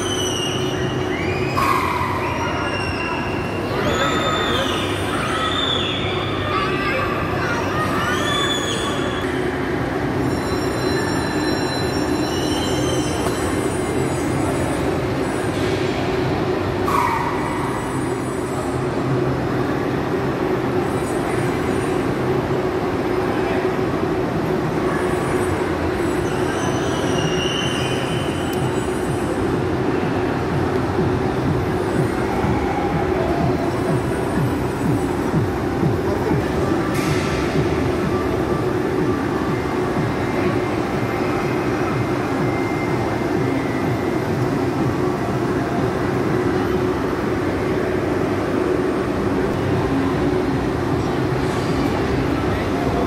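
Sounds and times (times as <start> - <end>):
arcade rumbling din: 0.0 - 53.0.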